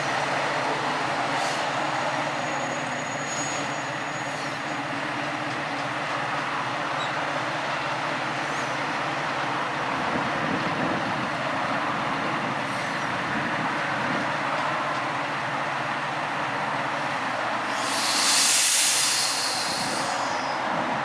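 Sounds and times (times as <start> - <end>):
train rail noise: 0.0 - 10.2, 11.5 - 21.0.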